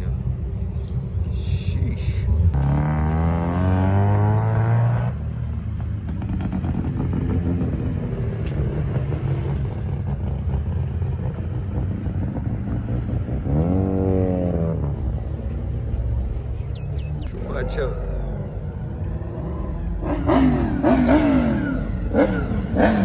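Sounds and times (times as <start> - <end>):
vehicle engine revving: 2.4 - 23.0.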